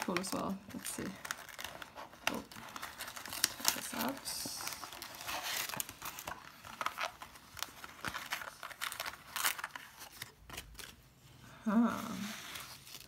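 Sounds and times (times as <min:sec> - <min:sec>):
plastic packaging crinkling: 0:00.0 - 0:11.1, 0:12.1 - 0:13.0.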